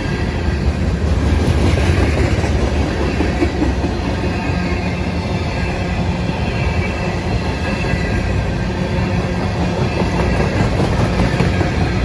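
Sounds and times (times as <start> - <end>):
freight train wheels rumbling on rails: 0.0 - 12.0.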